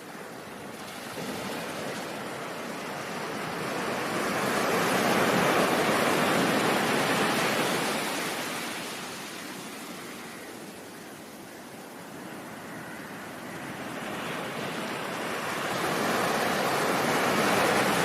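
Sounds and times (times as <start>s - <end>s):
ocean surf: 0.0s - 18.0s.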